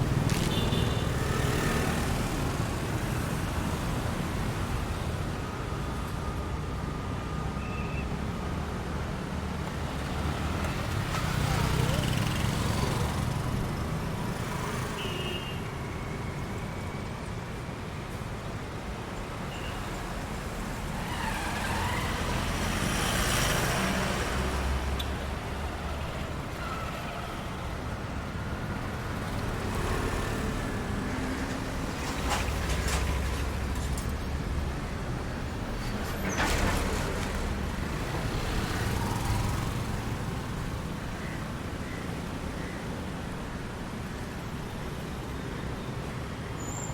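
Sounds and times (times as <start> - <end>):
vehicles passing close by: 0.0 - 5.2, 8.2 - 15.0, 19.2 - 46.5
road traffic rumble: 0.0 - 46.9.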